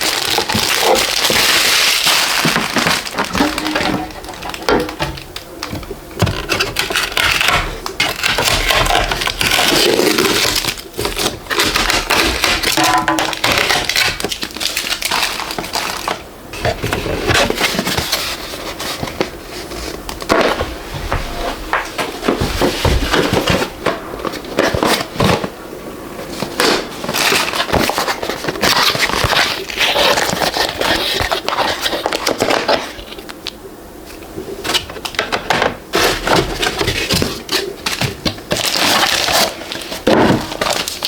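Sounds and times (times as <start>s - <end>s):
plastic packaging crinkling: 0.0s - 33.6s, 34.6s - 41.0s.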